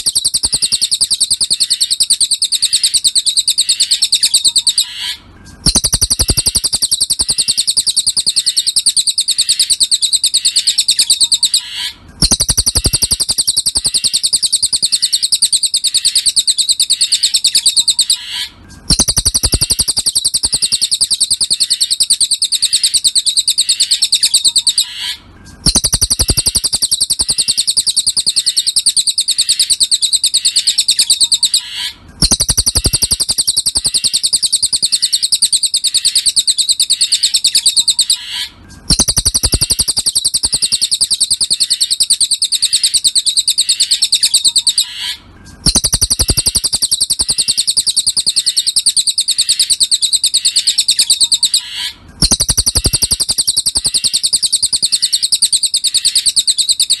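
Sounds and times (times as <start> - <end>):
songbird chattering trill: 0.0 - 57.0.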